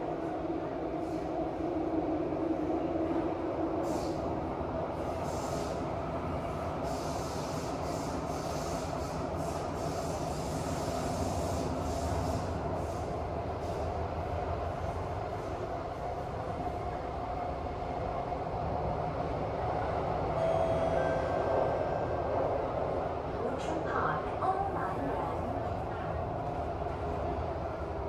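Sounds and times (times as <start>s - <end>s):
constant train whine: 0.0s - 28.0s.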